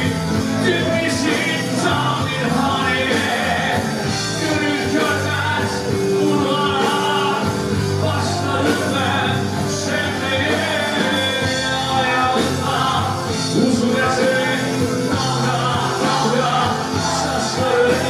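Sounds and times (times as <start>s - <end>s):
man singing: 0.0s - 18.0s
rock band playing live: 0.0s - 18.0s.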